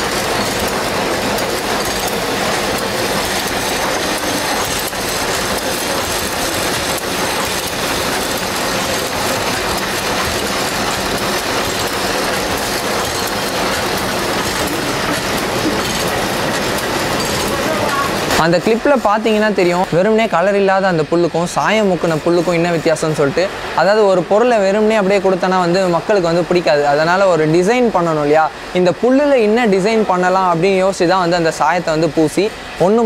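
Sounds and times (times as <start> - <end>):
loom metallic clatter: 0.0 - 33.0.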